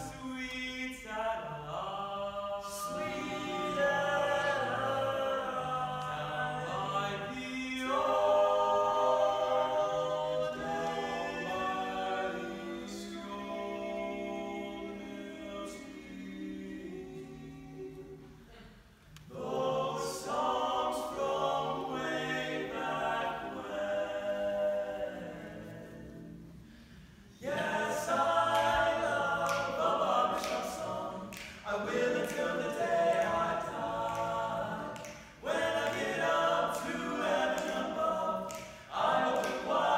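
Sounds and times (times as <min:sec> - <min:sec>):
male quartet singing a cappella: 0:00.0 - 0:18.5, 0:19.3 - 0:39.9.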